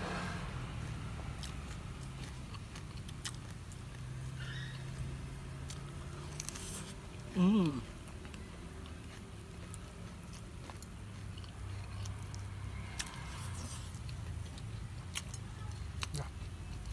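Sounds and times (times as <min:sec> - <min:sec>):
person chewing: 0:00.8 - 0:04.4, 0:05.0 - 0:16.9.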